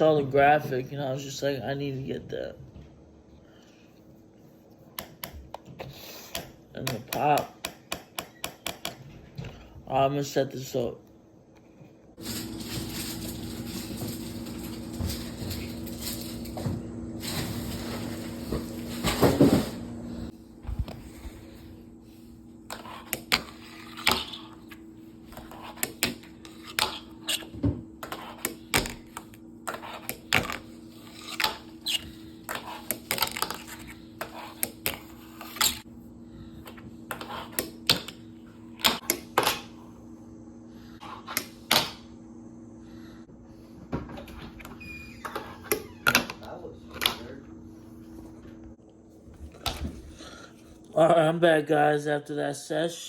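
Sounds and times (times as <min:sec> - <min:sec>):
steady low hum: 0:09.0 - 0:53.0.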